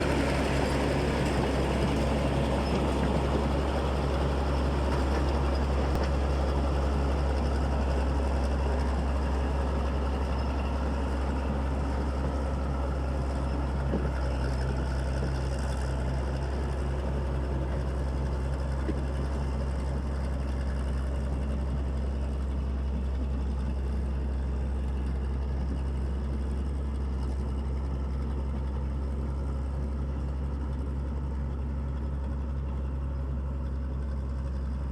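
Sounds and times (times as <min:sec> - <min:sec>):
bulldozer diesel engine running: 0:00.0 - 0:34.9.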